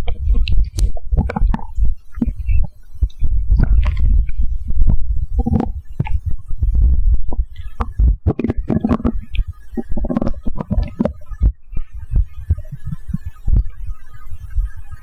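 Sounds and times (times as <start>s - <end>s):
stomach gurgling and rumbling: 0.0s - 15.0s.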